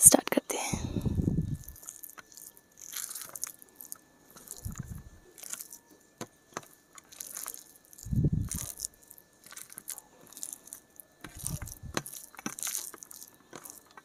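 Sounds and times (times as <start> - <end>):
wet squishing of food: 1.2 - 5.9, 6.6 - 14.0.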